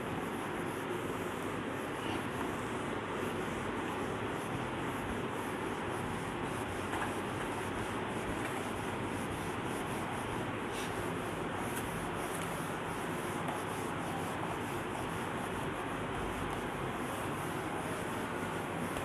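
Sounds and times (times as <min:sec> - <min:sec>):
cloth rubbing on whiteboard: 0:00.2 - 0:19.0.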